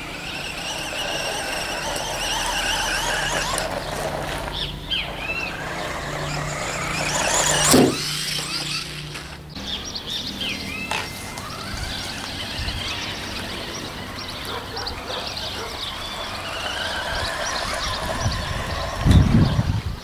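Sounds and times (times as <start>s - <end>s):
toy car electric motor: 0.0s - 9.6s, 10.4s - 20.0s
small birds chirping: 0.0s - 20.0s.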